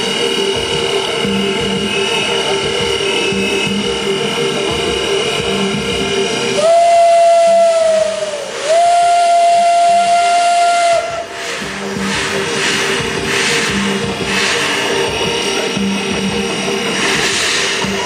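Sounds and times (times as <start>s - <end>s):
steam locomotive whistle: 0.0s - 16.4s
steam hissing: 0.0s - 18.0s.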